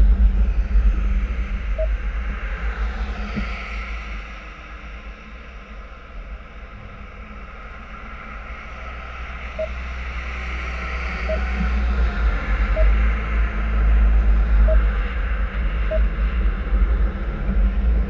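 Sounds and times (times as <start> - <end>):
car driving on snowy road: 0.0 - 18.0.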